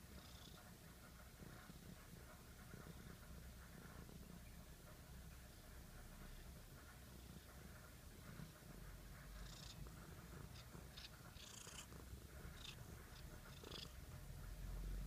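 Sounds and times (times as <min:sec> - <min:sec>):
cat purring: 0:00.0 - 0:15.0
cat snuffling: 0:00.0 - 0:15.0.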